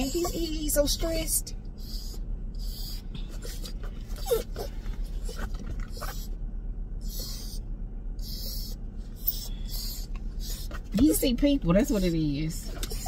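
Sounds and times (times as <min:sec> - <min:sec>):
puppy whining: 0:00.0 - 0:01.1, 0:01.8 - 0:06.4, 0:07.0 - 0:07.6, 0:08.2 - 0:11.2, 0:11.8 - 0:13.0.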